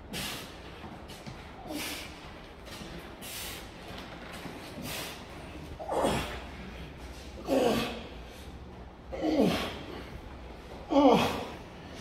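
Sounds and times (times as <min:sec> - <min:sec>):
man breathing hard: 0:00.0 - 0:03.9, 0:04.7 - 0:12.0.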